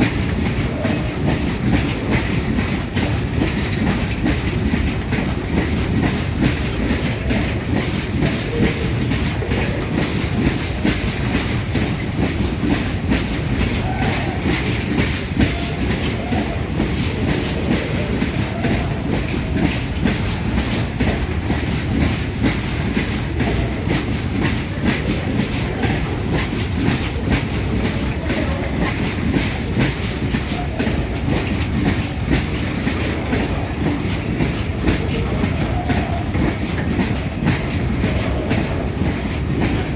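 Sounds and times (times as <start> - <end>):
freight train wheels clattering: 0.0 - 39.9
train rumble: 0.0 - 39.9.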